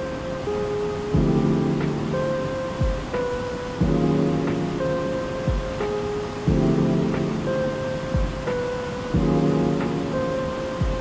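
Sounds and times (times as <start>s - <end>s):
background music of held chords: 0.0s - 11.0s.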